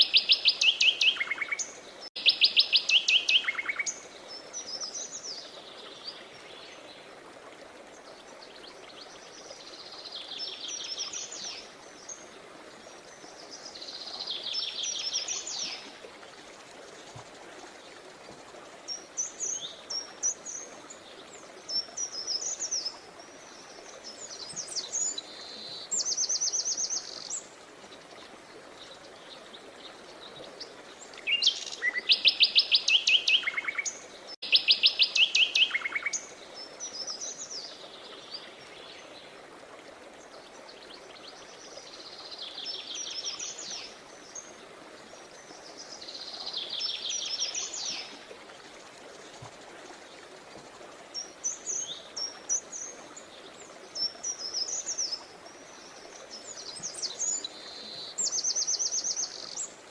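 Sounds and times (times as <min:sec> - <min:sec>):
songbirds singing and trilling: 0:00.0 - 0:07.0, 0:16.8 - 0:39.4, 0:40.2 - 0:59.9
running water: 0:00.0 - 0:59.9.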